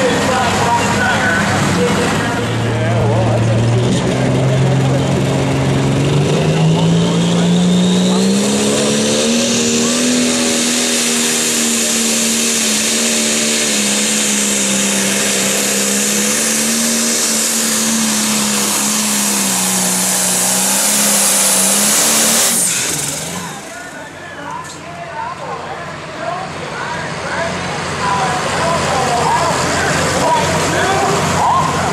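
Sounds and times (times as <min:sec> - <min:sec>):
diesel engine at full load: 0:00.0 - 0:31.9
high turbo whine: 0:00.0 - 0:31.9.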